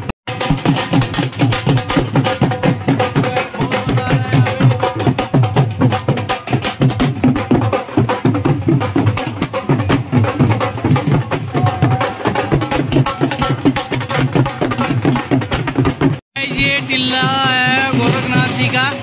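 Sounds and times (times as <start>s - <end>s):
dhol drums beating fast rhythm: 0.0s - 19.0s.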